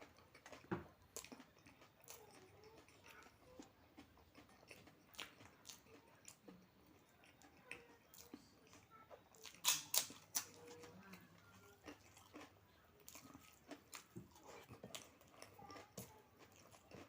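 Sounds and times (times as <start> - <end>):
chewing sounds: 0.0 - 17.0
sharp eating crunches: 0.0 - 17.0.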